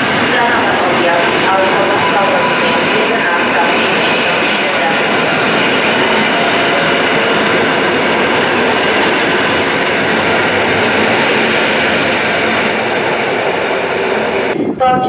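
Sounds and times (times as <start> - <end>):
faint train whine: 0.0 - 15.0
train wheels rumbling on rails: 0.0 - 15.0.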